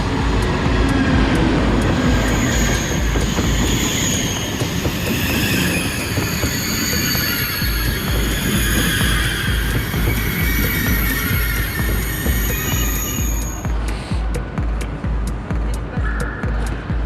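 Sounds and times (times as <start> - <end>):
high whining tones: 0.0 - 14.3
train rumbling on rails: 0.0 - 17.0.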